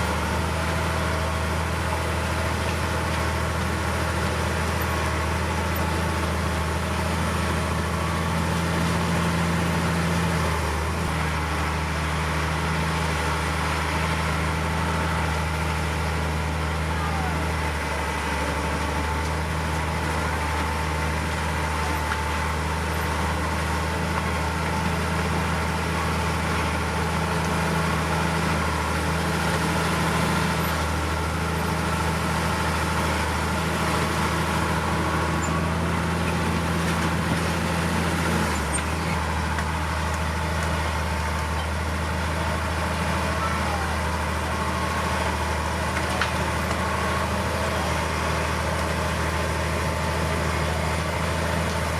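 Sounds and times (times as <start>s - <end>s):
heavy diesel engine droning: 0.0s - 51.9s.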